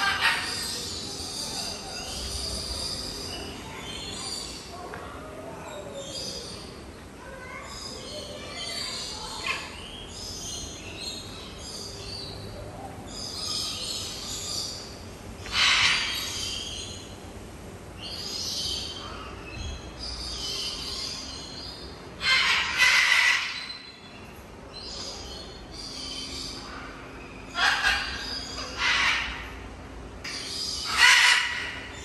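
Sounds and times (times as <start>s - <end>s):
birds chirping and calling: 0.0s - 32.0s.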